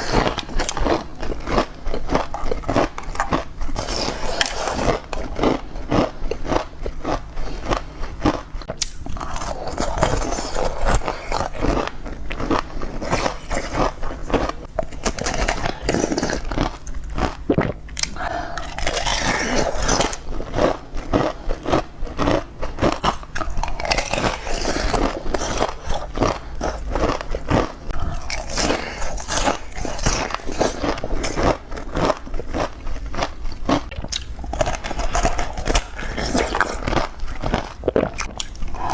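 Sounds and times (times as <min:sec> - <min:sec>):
ice crunching between teeth: 0:00.0 - 0:38.9.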